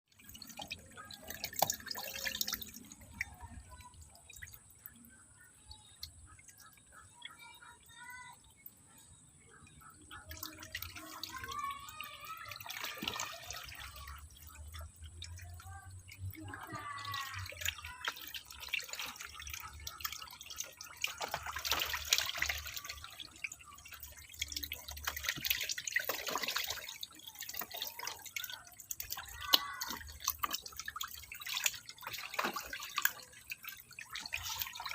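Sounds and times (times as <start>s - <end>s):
water splashing in a tank: 0.0s - 34.9s
water dripping: 0.1s - 34.9s.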